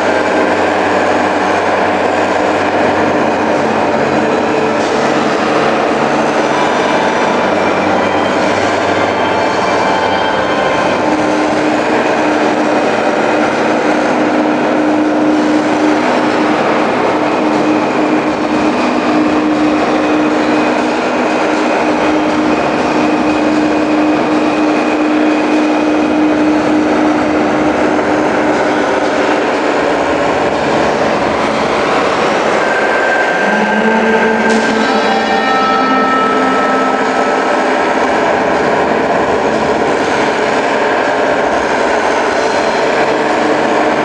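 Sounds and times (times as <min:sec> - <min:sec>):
droning tone: 0:00.0 - 0:26.6, 0:29.9 - 0:44.0.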